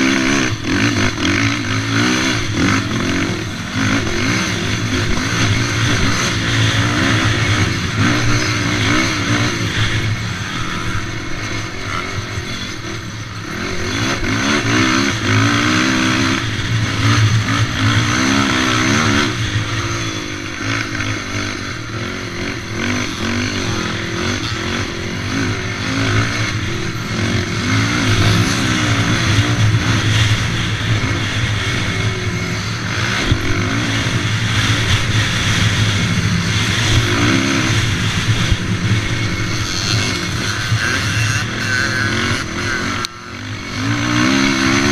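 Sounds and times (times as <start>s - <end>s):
quad engine revving: 0.0s - 44.9s.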